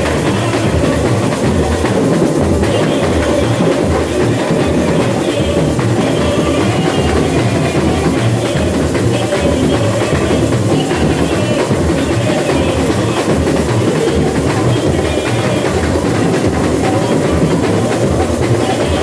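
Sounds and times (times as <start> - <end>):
deep bass drum beats: 0.0 - 19.0
samba drum section playing: 0.0 - 19.0.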